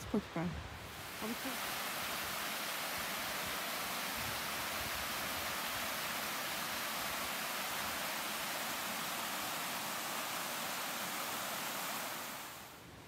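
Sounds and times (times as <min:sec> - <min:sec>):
rushing stream water: 0:00.0 - 0:13.0.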